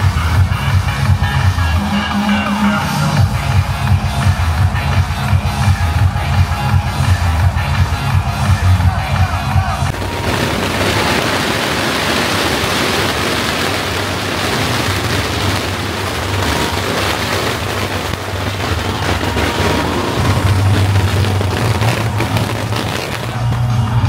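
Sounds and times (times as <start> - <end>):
firecracker barrage crackling: 0.0 - 24.0.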